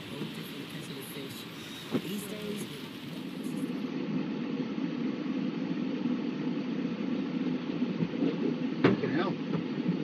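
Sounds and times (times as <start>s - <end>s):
car engine hum from inside cabin: 0.0s - 10.0s.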